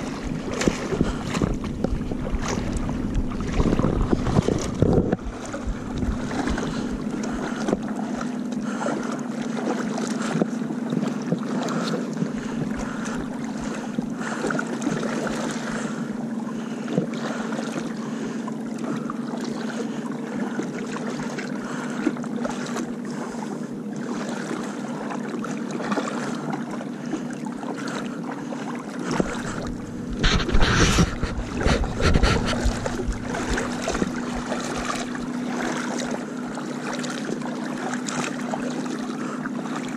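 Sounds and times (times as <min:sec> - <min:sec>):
boat engine humming: 0:00.0 - 0:39.9
water noise: 0:00.0 - 0:39.9
wind: 0:00.0 - 0:39.9.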